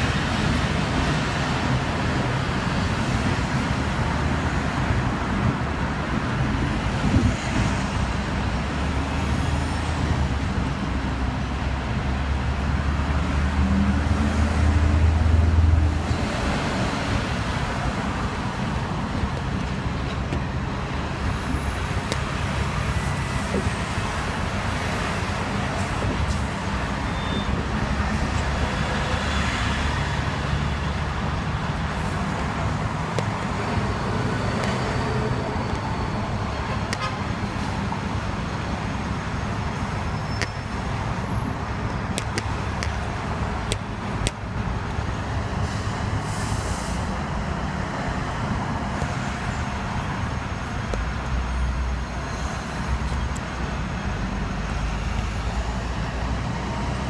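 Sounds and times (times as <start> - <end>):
road traffic: 0.0 - 57.0
tram rumbling on tracks: 0.0 - 57.0.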